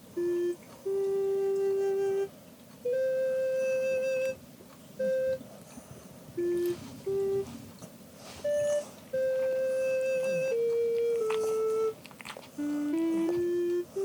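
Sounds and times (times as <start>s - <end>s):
slow melody of held notes: 0.0s - 14.0s.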